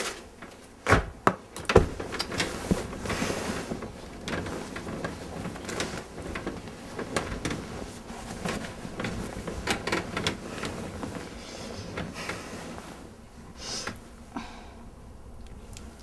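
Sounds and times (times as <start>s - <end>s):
bedclothes rustling: 0.0s - 14.3s.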